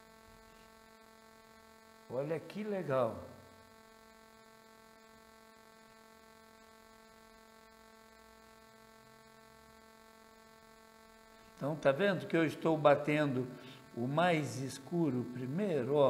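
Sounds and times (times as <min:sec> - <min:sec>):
faint buzzy electrical hum: 0:00.0 - 0:16.0.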